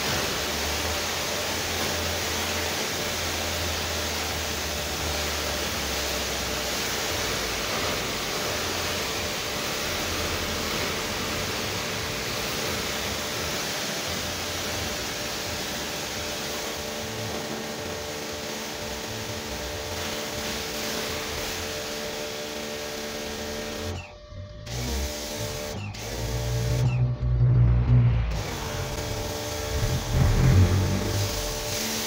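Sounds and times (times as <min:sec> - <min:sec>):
water jet hissing on concrete: 0:00.0 - 0:24.1, 0:24.7 - 0:26.9, 0:28.3 - 0:32.0
pressure washer motor humming: 0:00.0 - 0:32.0.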